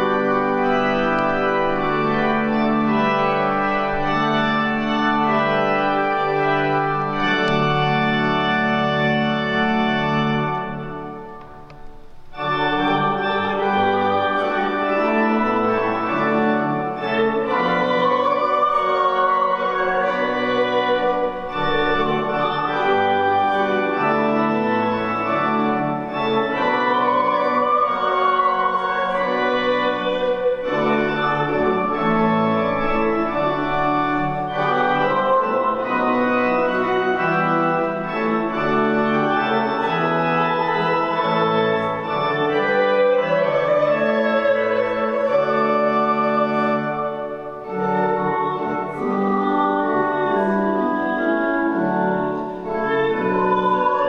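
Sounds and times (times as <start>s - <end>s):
church organ playing chords: 0.0s - 54.0s.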